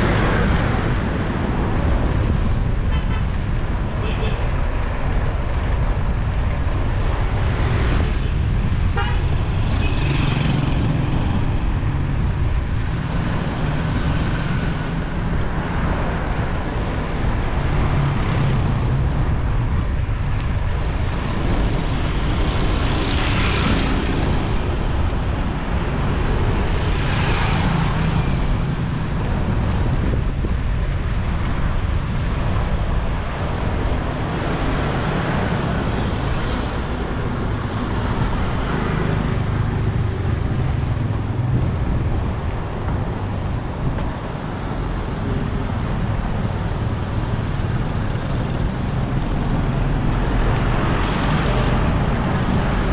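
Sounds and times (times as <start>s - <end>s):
vehicles passing: 0.0s - 52.9s
wind and road noise: 0.0s - 52.9s.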